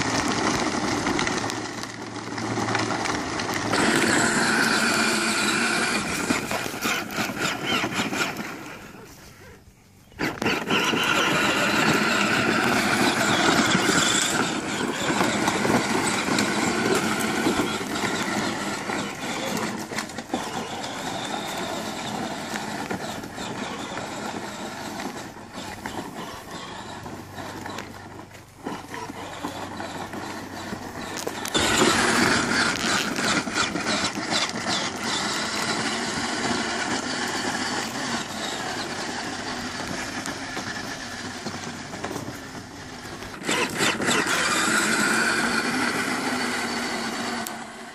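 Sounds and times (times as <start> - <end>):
plastic wheels rolling on dirt: 0.0 - 47.9
toy electric motors whining: 0.0 - 47.9.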